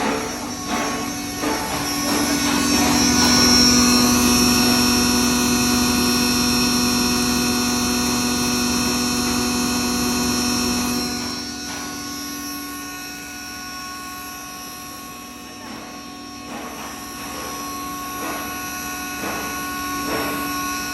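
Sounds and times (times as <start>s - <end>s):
grinder mechanical whine: 0.0s - 20.9s.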